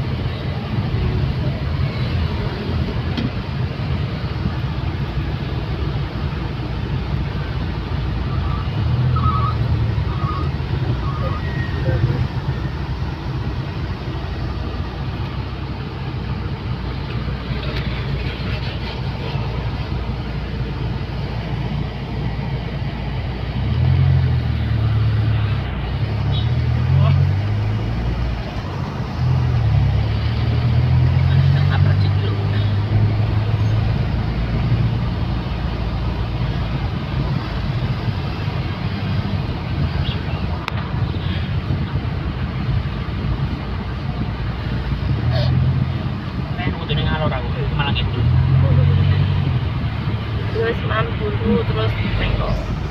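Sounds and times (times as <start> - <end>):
car engine hum: 0.0 - 52.9
tyre and road noise: 0.0 - 52.9.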